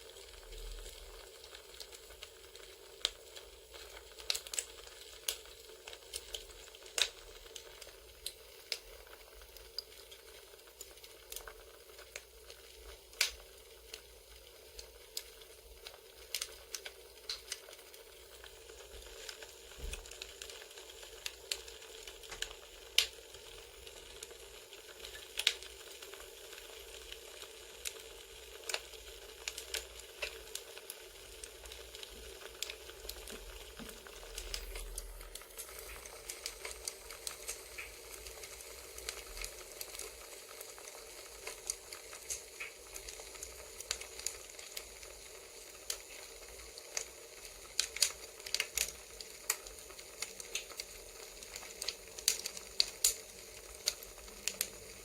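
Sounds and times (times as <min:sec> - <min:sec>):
fire hissing: 0:00.0 - 0:55.0
wood fire crackling: 0:00.0 - 0:55.0.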